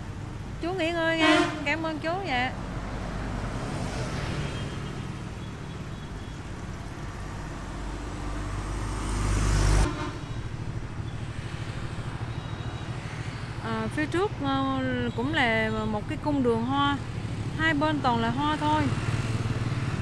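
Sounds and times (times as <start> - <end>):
passing vehicle engine and tyres: 0.0 - 20.0.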